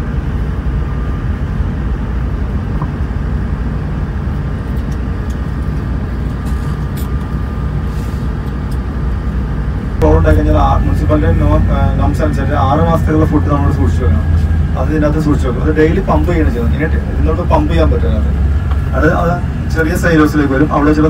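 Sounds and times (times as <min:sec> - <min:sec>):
faint steady hum: 0:00.0 - 0:21.0
low rumble of machinery: 0:00.0 - 0:21.0.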